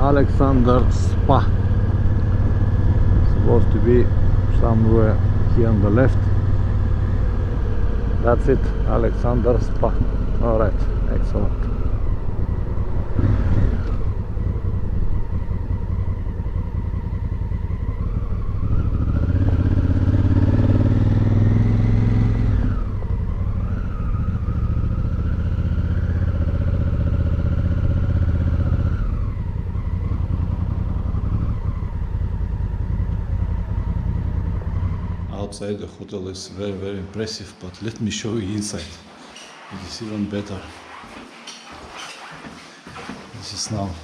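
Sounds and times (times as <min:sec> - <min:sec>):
motorcycle engine revving: 0:00.0 - 0:35.7.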